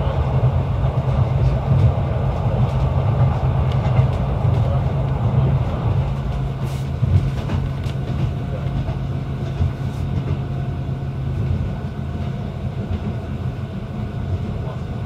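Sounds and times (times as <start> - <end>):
diesel railcar engine and rail hum: 0.0 - 15.0.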